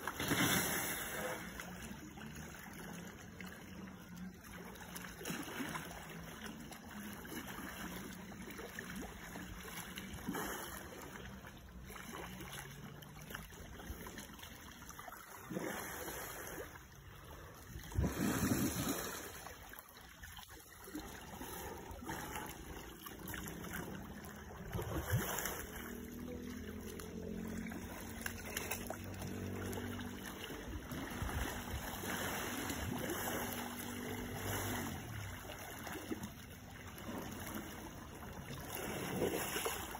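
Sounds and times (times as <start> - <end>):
water sloshing and splashing: 0.0 - 39.9.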